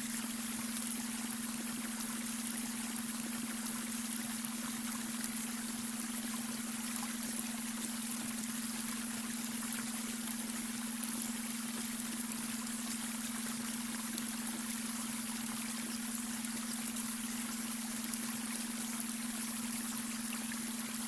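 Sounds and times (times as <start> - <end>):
brook water rippling: 0.0 - 21.0
steady low hum tone: 0.0 - 21.0.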